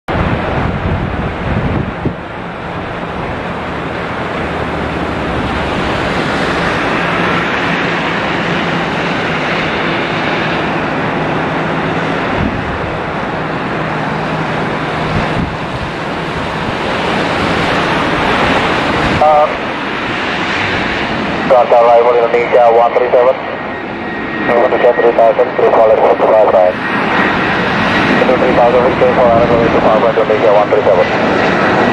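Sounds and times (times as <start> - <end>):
jet engines of landing airliner: 0.1 - 31.9.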